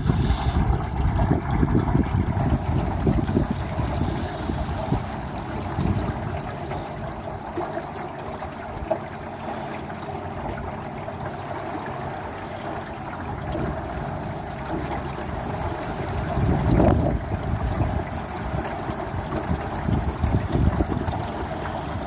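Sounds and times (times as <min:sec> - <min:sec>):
water rushing along boat hull: 0:00.0 - 0:22.0.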